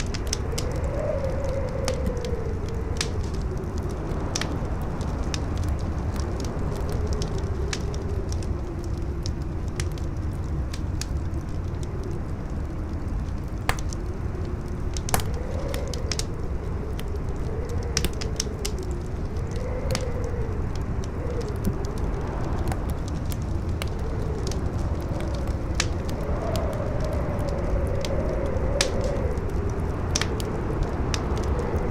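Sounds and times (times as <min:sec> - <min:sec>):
howling wind: 0:00.0 - 0:31.9
wood fire crackling and popping: 0:00.0 - 0:31.9.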